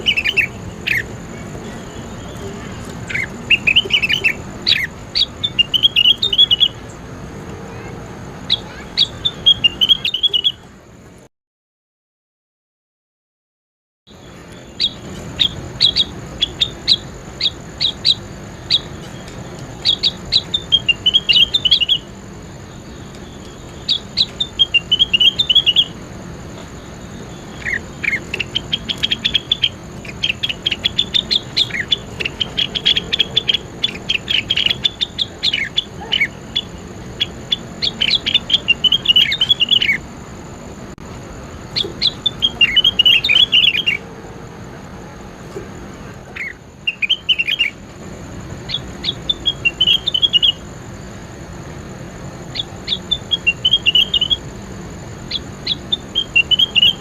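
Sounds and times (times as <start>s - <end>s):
songbird chirping: 0.0s - 11.3s, 14.1s - 57.0s.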